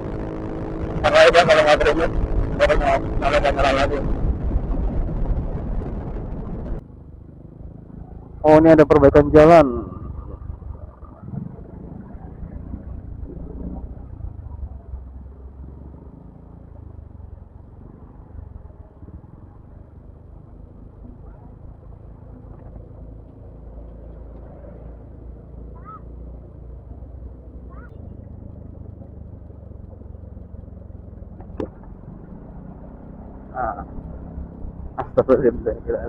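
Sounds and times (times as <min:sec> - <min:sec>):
scooter engine and wind rumble: 0:00.0 - 0:36.0.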